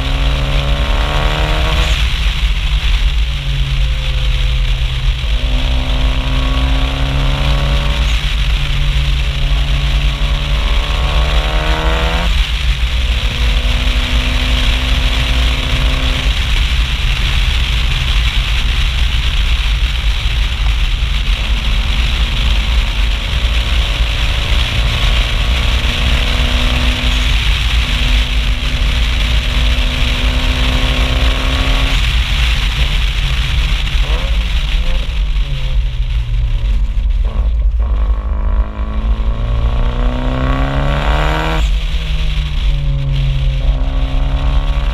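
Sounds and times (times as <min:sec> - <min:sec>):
car engine and loud exhaust: 0:00.0 - 0:44.9
wind and road rush: 0:00.0 - 0:44.9.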